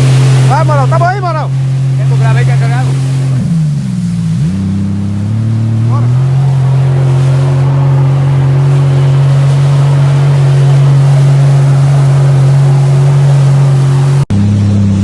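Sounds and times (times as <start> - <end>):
jet ski engine humming: 0.0 - 15.0
water wash: 0.0 - 15.0.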